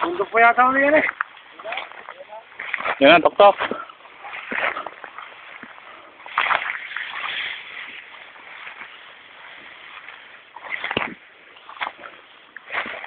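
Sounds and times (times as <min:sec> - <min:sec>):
dry grass swishing: 0:01.3 - 0:13.0.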